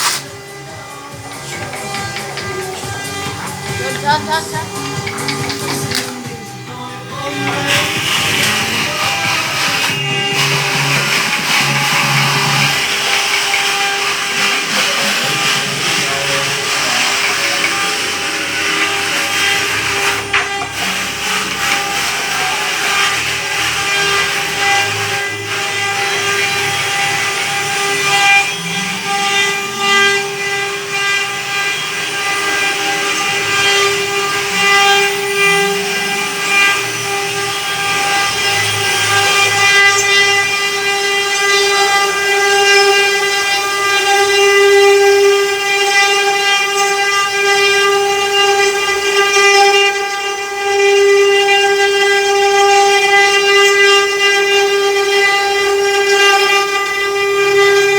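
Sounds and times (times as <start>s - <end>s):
router spindle whining cutting wood: 0.0s - 57.9s.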